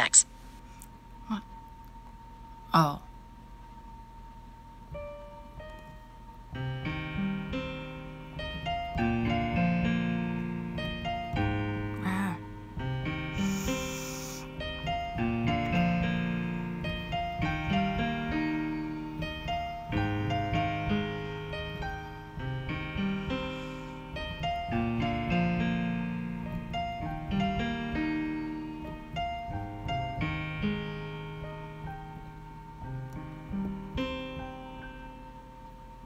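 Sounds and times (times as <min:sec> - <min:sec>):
piano music: 0:04.8 - 0:36.0.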